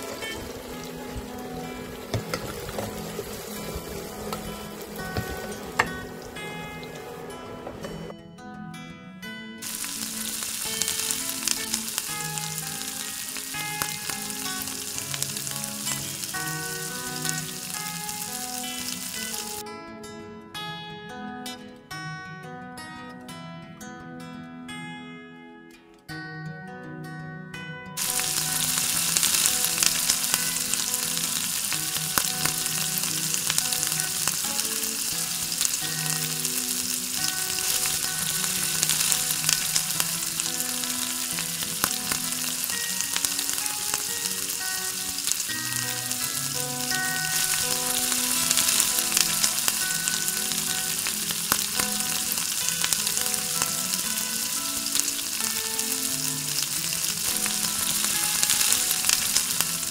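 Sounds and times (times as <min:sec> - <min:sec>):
food sizzling in hot oil: 0:00.0 - 0:08.1, 0:09.6 - 0:19.6, 0:28.0 - 0:59.9.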